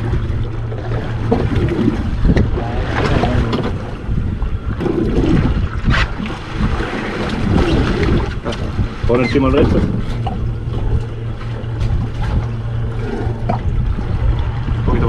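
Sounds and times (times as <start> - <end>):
low steady hum: 0.0 - 15.0
water washing against hull: 0.0 - 15.0
wind on microphone: 1.2 - 15.0.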